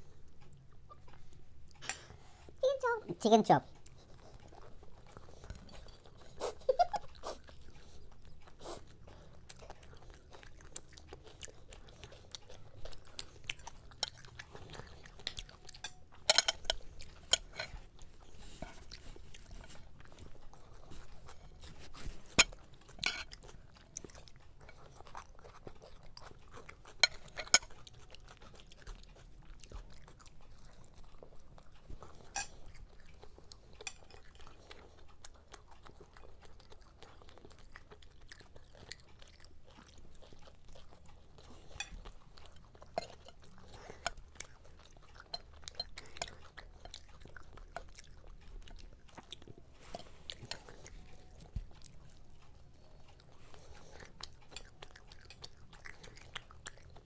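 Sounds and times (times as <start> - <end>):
people chewing and crunching: 0.0 - 57.0.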